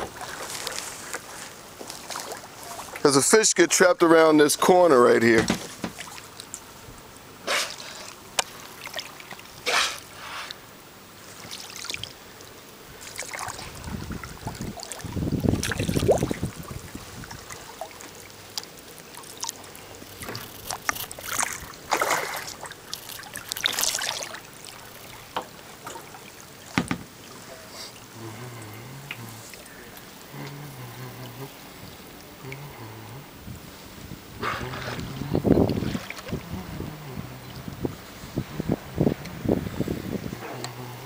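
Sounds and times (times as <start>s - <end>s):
water splashing around kayak: 0.0s - 40.4s.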